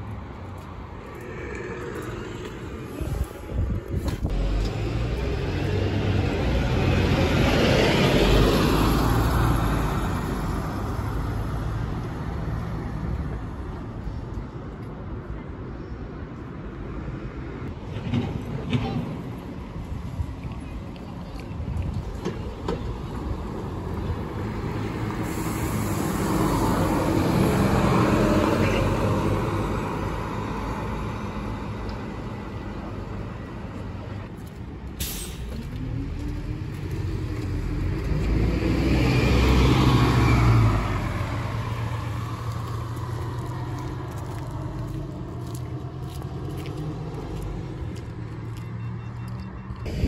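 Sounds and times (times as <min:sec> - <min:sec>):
bus passing: 0:00.0 - 0:50.0
traffic rumble: 0:00.0 - 0:50.0
bus pulling away: 0:01.2 - 0:14.2, 0:17.8 - 0:50.0.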